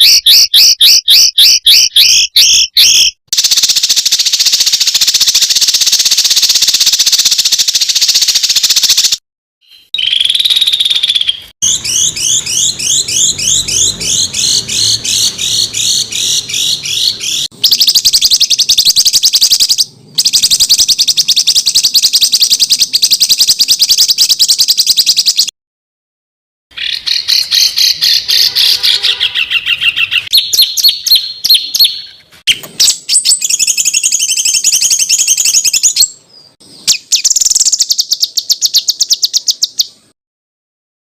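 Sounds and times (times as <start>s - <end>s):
songbirds singing harsh rapid notes: 0.0s - 25.5s, 26.7s - 40.2s.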